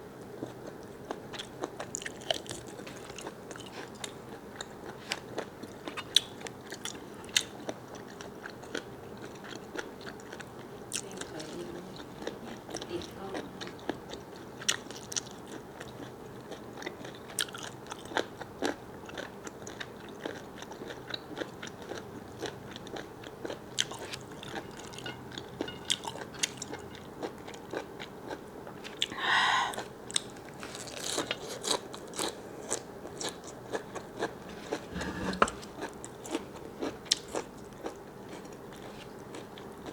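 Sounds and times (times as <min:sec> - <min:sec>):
person chewing squid: 0:00.4 - 0:11.1, 0:13.6 - 0:34.9, 0:35.8 - 0:39.9.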